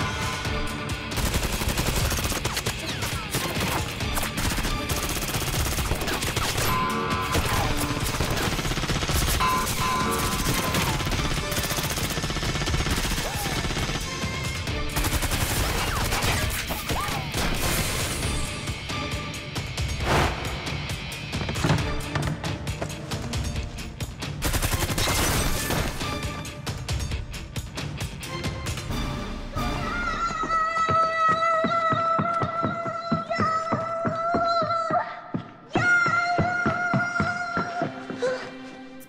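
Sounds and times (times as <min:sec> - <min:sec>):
background music: 0:00.0 - 0:39.0.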